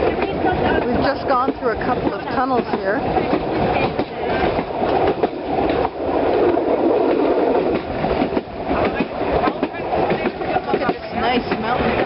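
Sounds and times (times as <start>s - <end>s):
clacks from the rails: 0.0s - 12.0s
train wheels rumbling and rattling: 0.0s - 12.0s.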